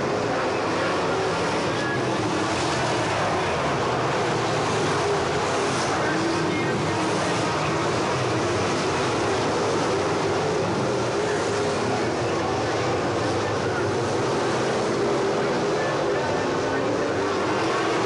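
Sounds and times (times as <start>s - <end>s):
race car engines at speed: 0.0s - 18.0s.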